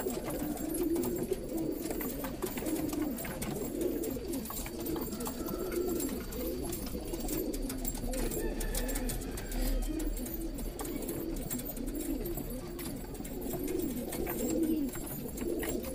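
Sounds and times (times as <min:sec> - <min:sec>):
pigeons cooing: 0:00.0 - 0:15.9.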